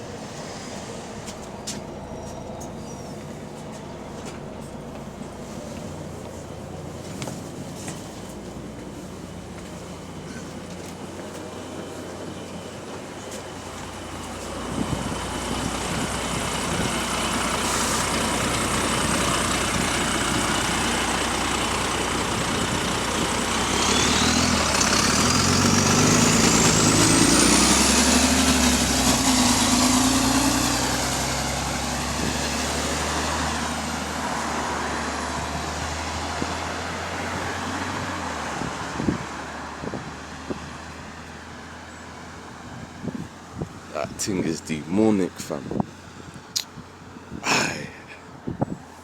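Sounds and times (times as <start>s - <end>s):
diesel bus engine pulling away: 0.0s - 49.0s.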